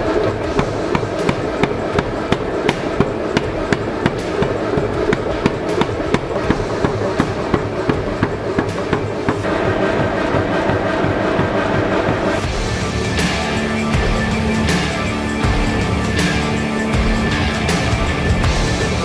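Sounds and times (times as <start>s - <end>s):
power hammer striking steel: 0.0s - 16.4s.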